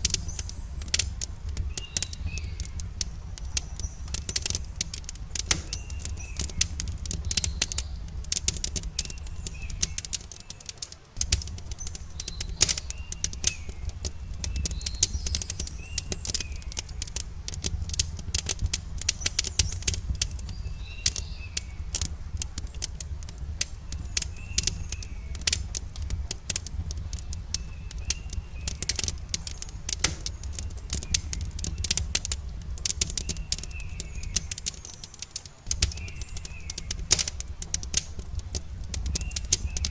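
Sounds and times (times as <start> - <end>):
birds chirping: 0.0 - 39.9
campfire crackling and popping: 0.0 - 39.9.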